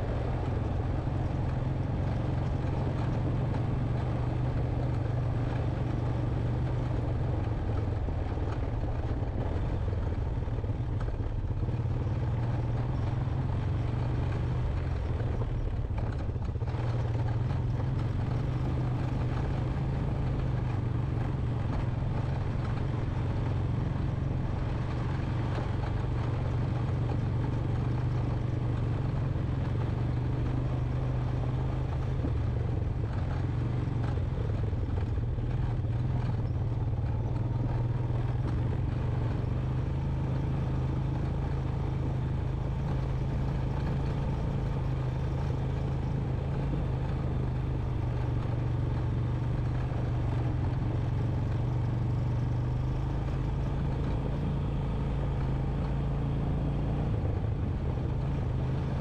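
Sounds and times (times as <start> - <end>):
atv engine droning: 0.0 - 59.0.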